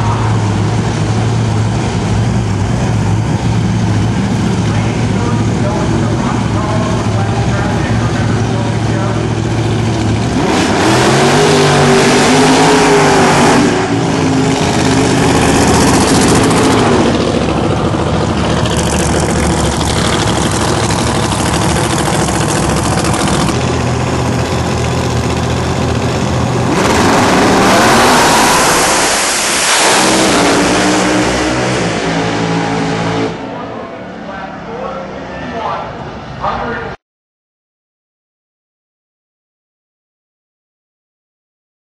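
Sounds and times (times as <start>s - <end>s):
race car engines revving: 0.0s - 37.0s.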